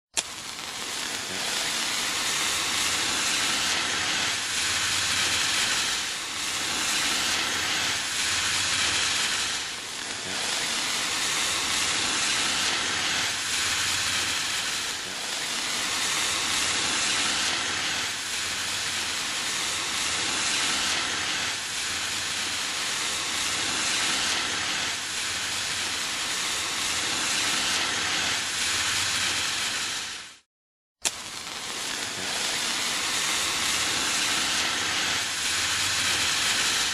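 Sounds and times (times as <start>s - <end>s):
hand flare hissing: 0.2s - 36.9s.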